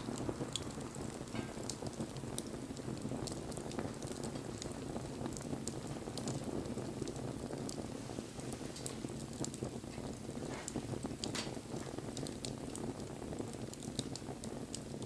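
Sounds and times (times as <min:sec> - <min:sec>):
bonfire flames: 0:00.0 - 0:15.0
fire crackling and popping: 0:00.0 - 0:15.0.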